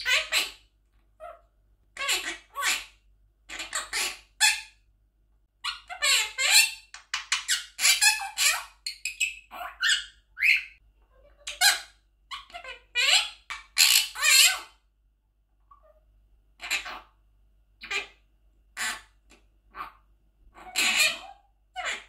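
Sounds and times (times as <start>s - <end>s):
parakeet talking in squeaky voice: 0.0s - 0.6s, 1.2s - 4.8s, 5.6s - 14.8s, 16.6s - 17.2s, 17.8s - 18.2s, 18.8s - 22.0s.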